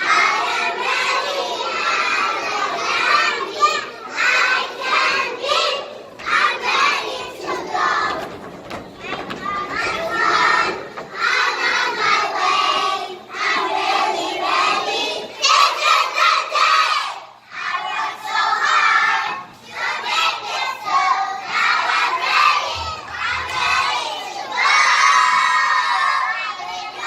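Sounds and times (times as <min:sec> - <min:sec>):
children shouting and singing: 0:00.0 - 0:27.0.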